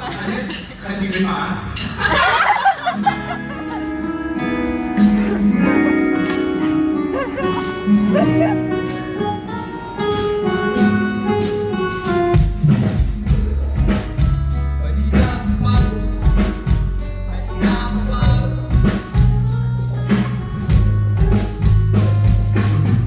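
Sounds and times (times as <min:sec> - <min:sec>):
drums: 0:00.0 - 0:23.0
bass guitar: 0:01.7 - 0:23.0
electric guitar: 0:03.0 - 0:23.0.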